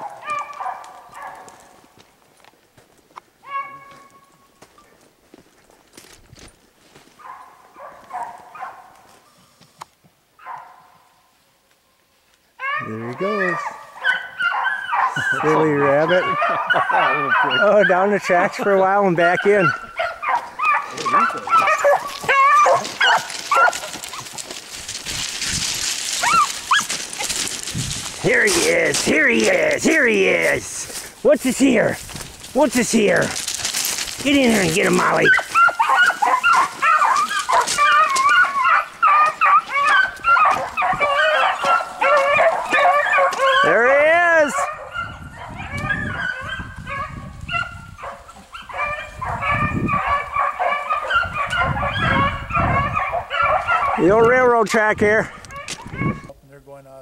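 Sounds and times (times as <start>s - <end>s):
dogs yelping: 0.0s - 1.8s, 3.4s - 4.4s, 7.2s - 9.1s, 10.4s - 11.0s, 12.6s - 54.4s, 55.2s - 56.3s
hounds baying: 0.0s - 2.0s, 3.4s - 4.8s, 7.0s - 9.4s, 10.4s - 11.2s, 12.6s - 56.3s.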